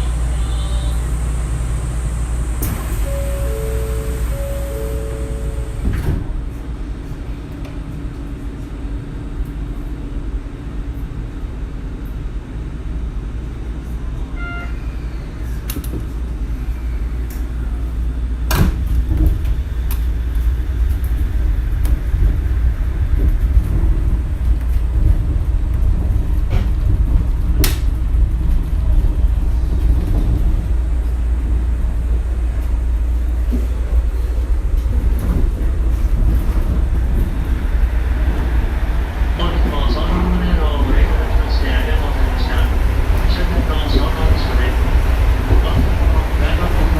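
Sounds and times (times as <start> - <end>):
monorail car rumbling: 0.0 - 46.9.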